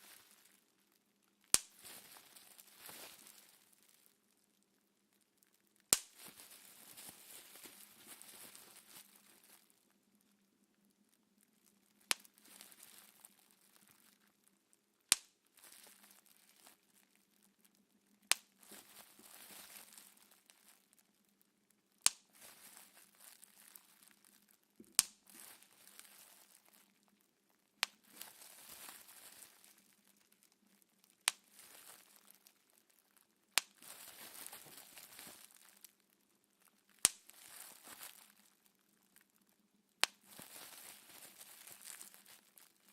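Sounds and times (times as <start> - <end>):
plastic crinkling: 0.0 - 14.6, 15.2 - 42.9
bubble wrap popping: 0.0 - 42.9.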